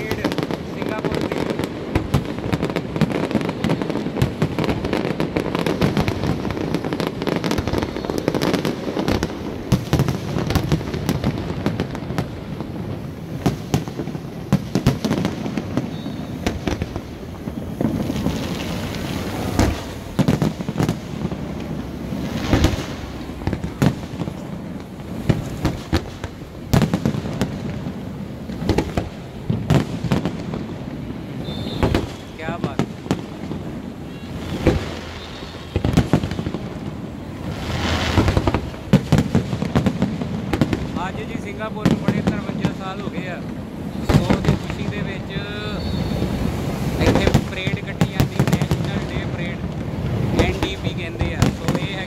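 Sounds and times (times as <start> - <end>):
fireworks bursting and crackling: 0.0 - 52.0
loud firework bangs: 0.0 - 52.0.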